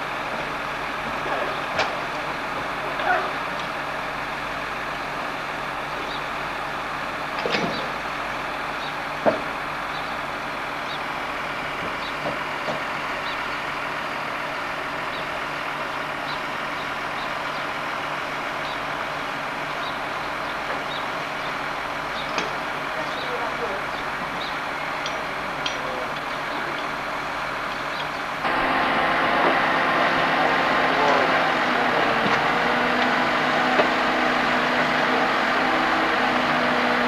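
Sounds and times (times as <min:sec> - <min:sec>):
crane engine running: 0:00.0 - 0:37.0.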